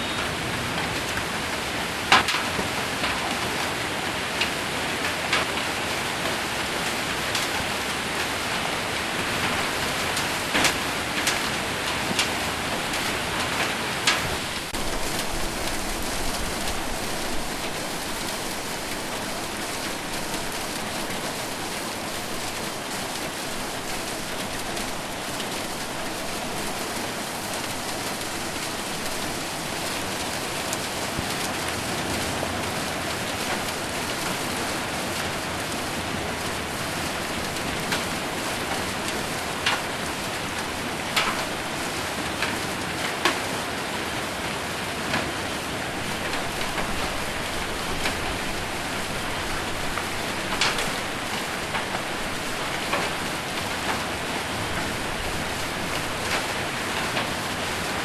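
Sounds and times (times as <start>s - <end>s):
heavy rain on metal roof: 0.0s - 58.0s.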